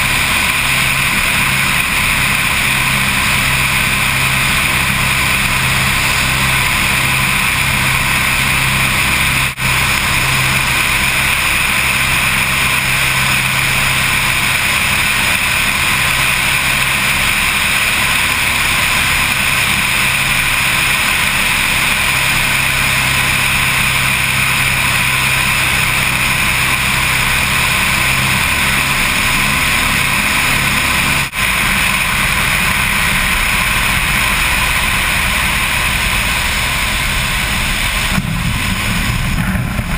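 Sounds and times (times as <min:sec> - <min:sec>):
aircraft engines droning: 0:00.0 - 0:39.9
rushing air: 0:00.0 - 0:39.9.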